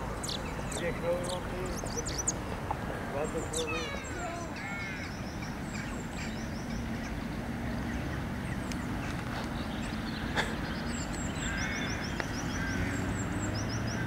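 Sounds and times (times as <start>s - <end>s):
small birds singing: 0.0s - 14.0s.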